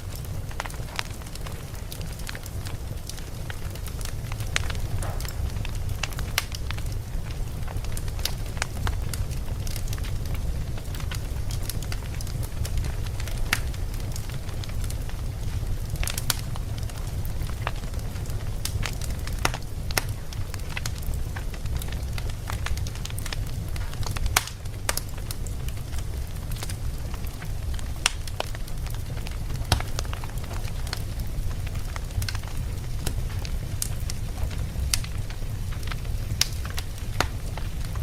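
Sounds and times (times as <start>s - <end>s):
campfire crackling and popping: 0.0s - 38.0s
low fire rumble: 0.0s - 38.0s.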